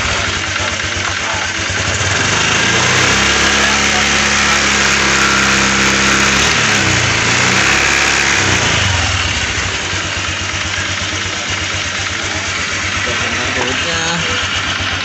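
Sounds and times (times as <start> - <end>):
scooter engine revving and idling: 0.0 - 15.0.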